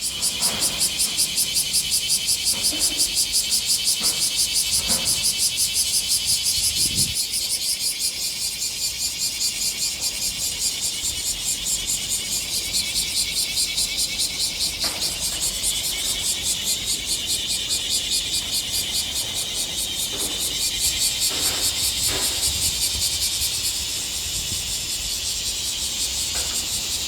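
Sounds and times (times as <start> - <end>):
cicadas pulsing buzz: 0.0 - 27.0.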